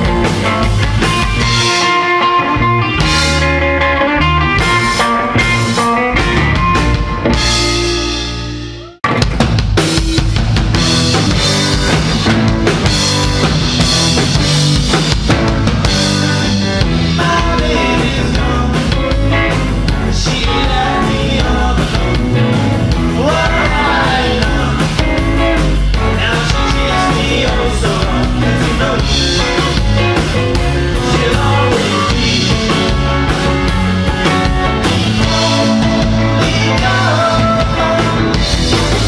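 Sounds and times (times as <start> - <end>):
drum kit with cymbals: 0.0 - 3.8, 4.4 - 39.0
electric guitar: 0.0 - 39.0
rock band playing: 0.0 - 39.0.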